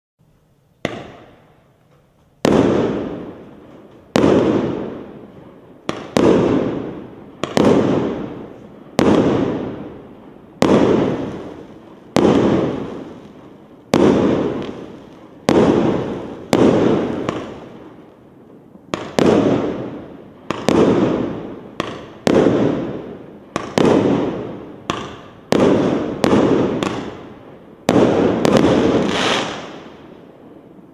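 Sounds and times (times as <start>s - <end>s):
fireworks cake bangs: 0.8s - 1.5s, 2.4s - 5.2s, 5.8s - 9.9s, 10.6s - 18.0s, 18.9s - 29.8s.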